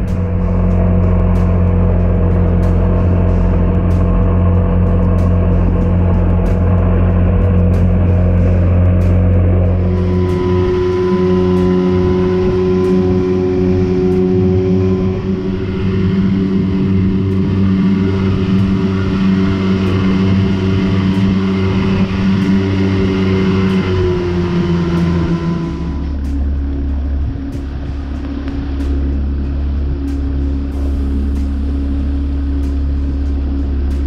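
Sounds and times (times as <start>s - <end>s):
outboard motor running: 0.0s - 34.0s
water rushing past hull: 0.0s - 34.0s.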